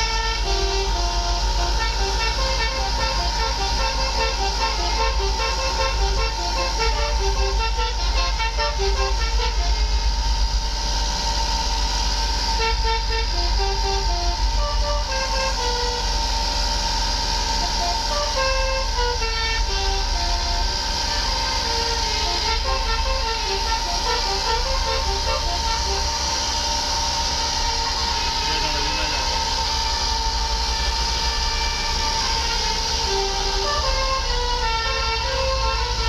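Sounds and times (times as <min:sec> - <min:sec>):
engine running rumble: 0:00.0 - 0:36.0
multi-tone air horn tune: 0:00.0 - 0:36.0.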